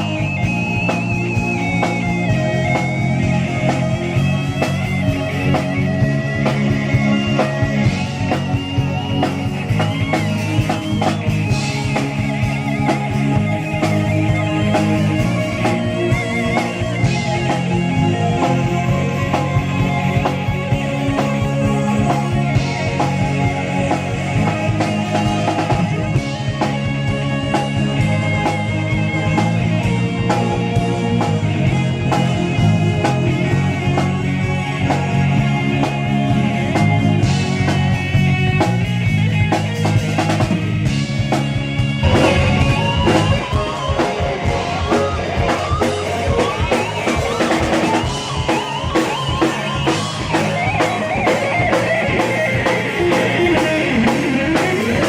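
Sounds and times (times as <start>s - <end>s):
bass guitar: 0.0s - 55.0s
drum kit beat: 0.0s - 55.0s
guitar playing bending notes: 0.0s - 55.0s.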